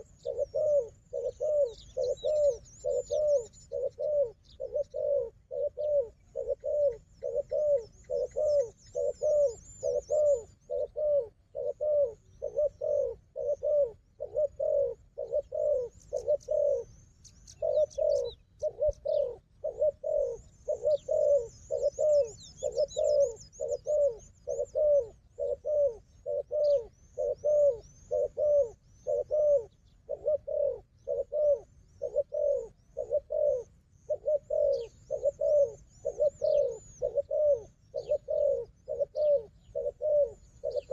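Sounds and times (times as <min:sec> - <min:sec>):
doves cooing: 0:00.0 - 0:40.9
small birds chirping: 0:00.0 - 0:40.9.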